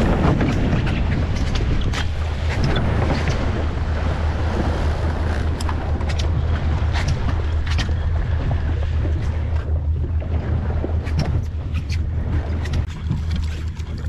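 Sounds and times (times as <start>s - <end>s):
boat engine running: 0.0s - 14.0s
water washing around hull: 0.0s - 14.0s
wind buffeting microphone: 0.0s - 14.0s.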